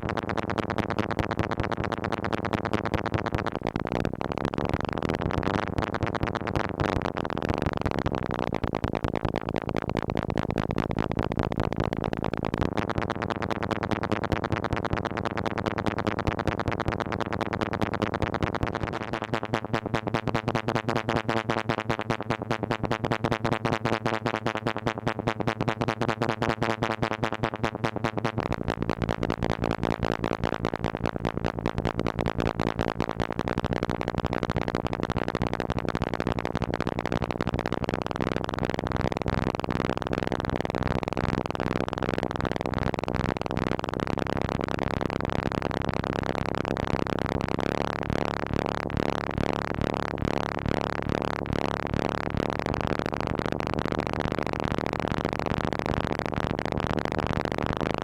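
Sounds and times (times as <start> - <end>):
rapid pulsing synth tone: 0.0 - 58.0.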